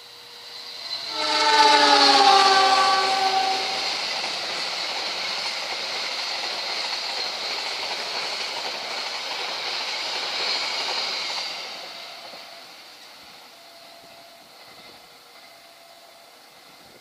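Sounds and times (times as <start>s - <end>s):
train coaches rolling past: 0.0s - 17.0s.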